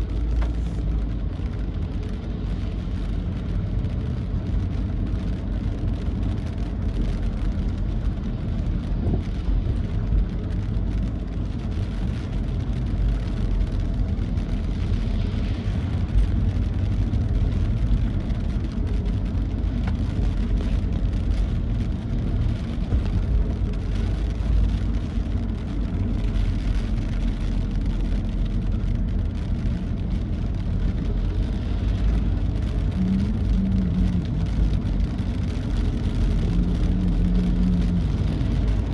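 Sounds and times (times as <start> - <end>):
vehicle rumble on wet road: 0.0 - 38.9.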